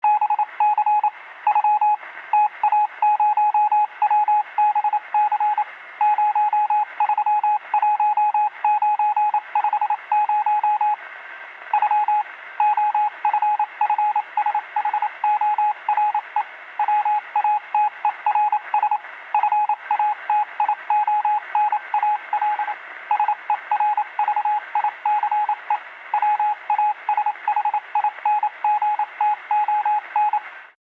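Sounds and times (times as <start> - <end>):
morse code beeps: 0.0 - 11.0, 11.8 - 30.4.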